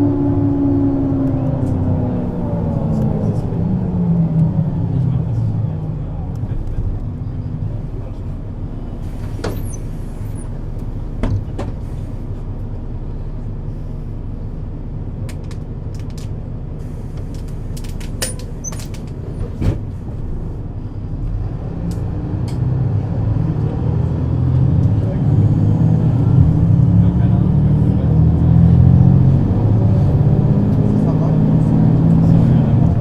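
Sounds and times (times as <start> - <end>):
bus diesel engine droning: 0.0 - 33.0.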